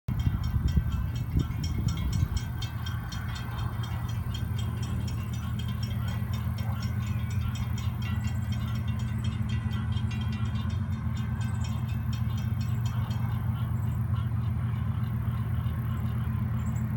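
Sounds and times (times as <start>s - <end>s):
fast high-pitched ticking: 0.1s - 14.4s
distant locomotive hum: 0.1s - 16.9s.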